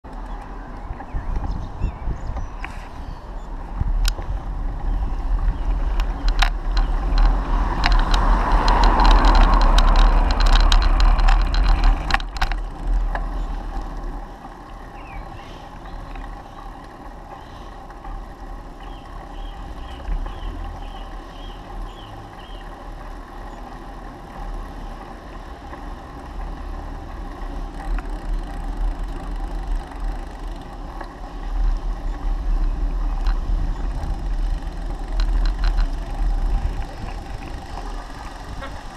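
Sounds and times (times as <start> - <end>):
road rumble: 0.0 - 38.9
wind buffeting: 0.4 - 22.7, 26.0 - 38.9.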